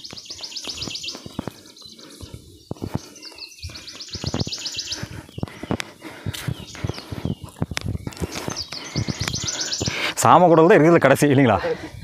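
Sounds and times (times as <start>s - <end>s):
footsteps on dirt path: 0.0s - 10.5s.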